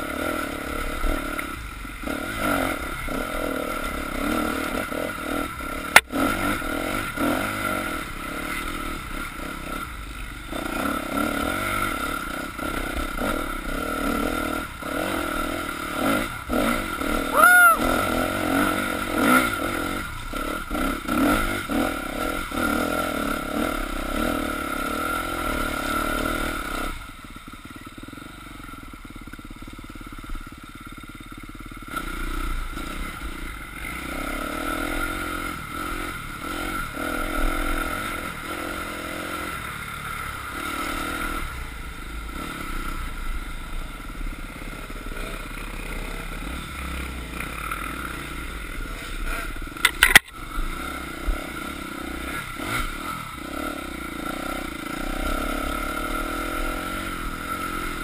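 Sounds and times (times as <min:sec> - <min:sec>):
dirt bike engine: 0:00.0 - 0:58.0.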